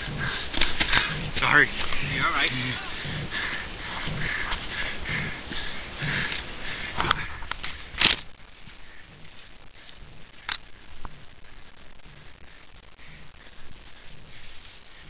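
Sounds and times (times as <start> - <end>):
faint footsteps on dirt trail: 0.0 - 15.0.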